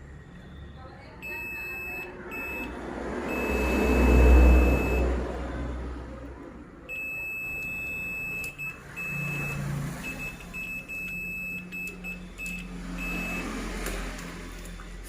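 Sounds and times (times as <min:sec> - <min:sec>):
multimeter continuity beep: 0:00.4 - 0:05.7, 0:06.9 - 0:13.7.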